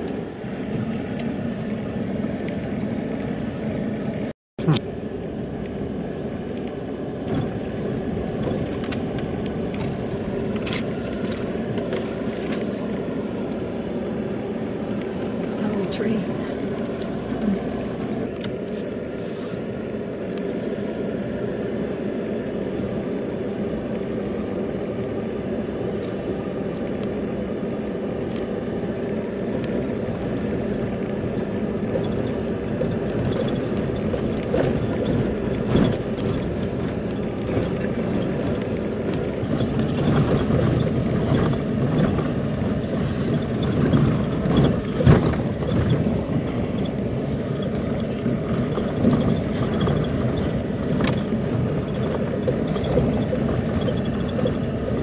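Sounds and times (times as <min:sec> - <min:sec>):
truck engine and tyre rumble: 0:00.0 - 0:55.0.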